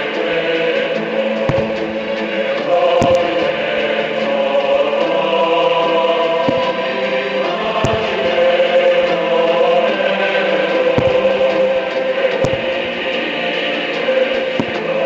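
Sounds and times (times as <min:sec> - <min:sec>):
choral music: 0:00.0 - 0:15.0
fireworks bangs: 0:01.4 - 0:05.4, 0:06.2 - 0:15.0.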